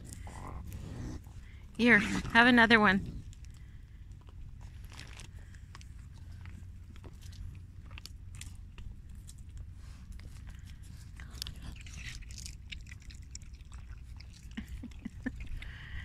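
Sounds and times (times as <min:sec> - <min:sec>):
raccoon chewing: 0:00.0 - 0:16.0.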